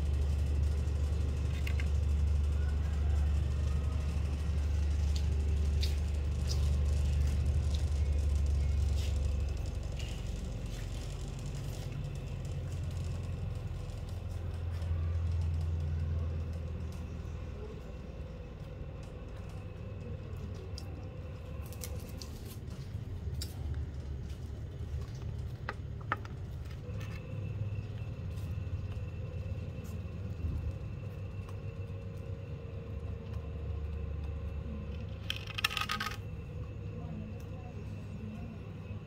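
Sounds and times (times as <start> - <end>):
low rumble: 0.0 - 39.0.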